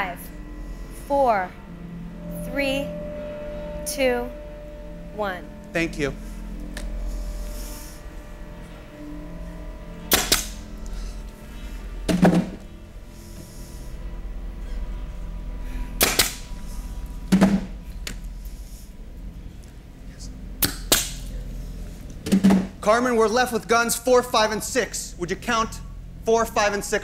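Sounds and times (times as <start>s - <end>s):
low tense background music: 0.0s - 27.0s.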